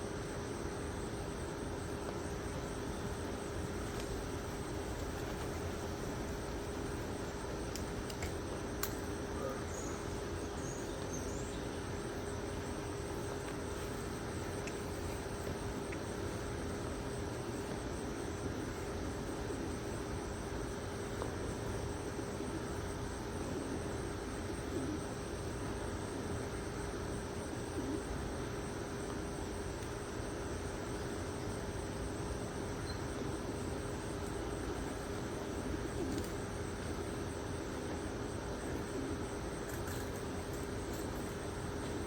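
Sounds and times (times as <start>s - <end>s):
constant low hum: 0.0s - 42.0s.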